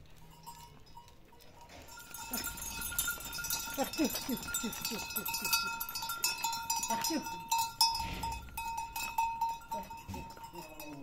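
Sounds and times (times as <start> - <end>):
bells clinking and ringing: 0.0 - 11.0.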